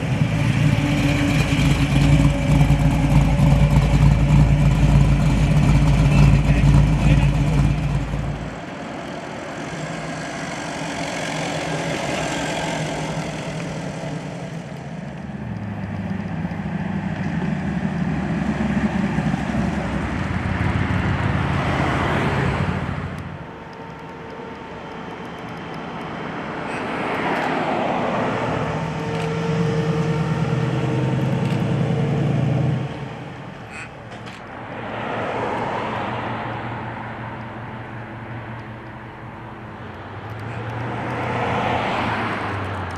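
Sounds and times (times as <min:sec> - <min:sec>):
cars driving past: 0:00.0 - 0:42.9.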